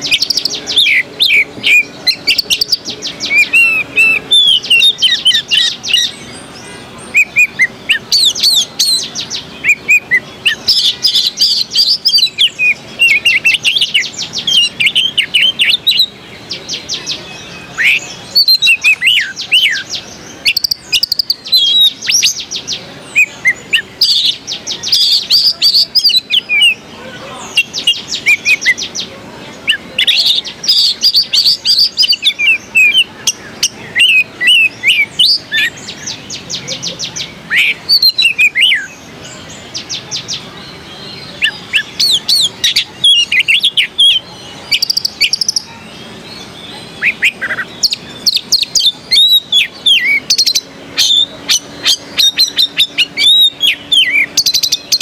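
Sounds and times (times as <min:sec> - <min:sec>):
bird singing whistles: 0:00.0 - 0:06.4, 0:07.1 - 0:16.1, 0:16.7 - 0:26.8, 0:27.6 - 0:29.0, 0:29.7 - 0:39.0, 0:41.0 - 0:45.7, 0:47.0 - 0:55.0.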